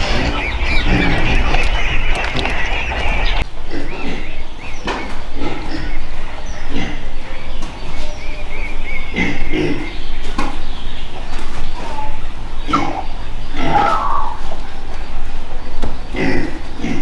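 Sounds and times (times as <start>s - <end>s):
high chirping calls: 0.0s - 16.2s
ducks quacking: 0.0s - 17.0s.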